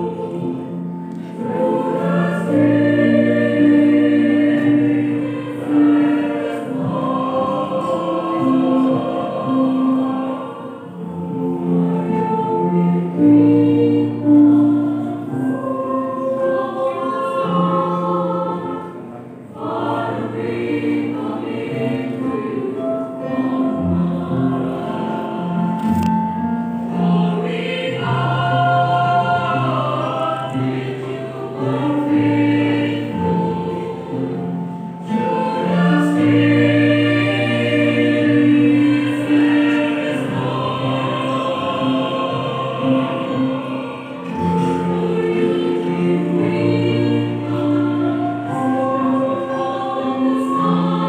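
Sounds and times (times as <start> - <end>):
choir singing a hymn: 0.0 - 51.0.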